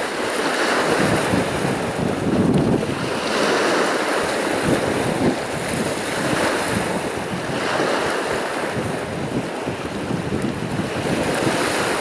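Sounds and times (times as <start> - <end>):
surf breaking on shore: 0.0 - 12.0
wind buffeting microphone: 0.0 - 12.0.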